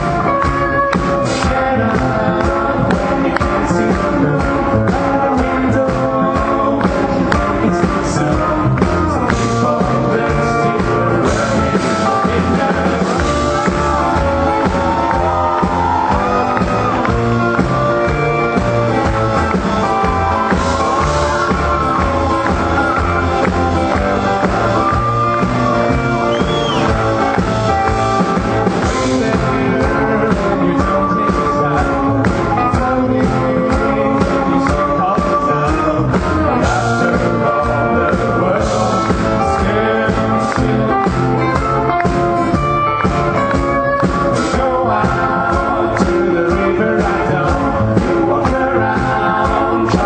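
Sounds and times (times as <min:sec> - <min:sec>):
live band playing: 0:00.0 - 0:50.0
person singing: 0:00.0 - 0:50.0.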